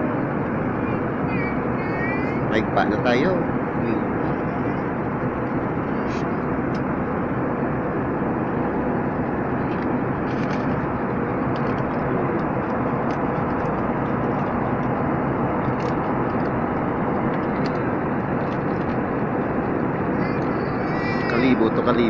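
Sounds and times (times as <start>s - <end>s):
airplane cabin engine noise: 0.0s - 22.0s.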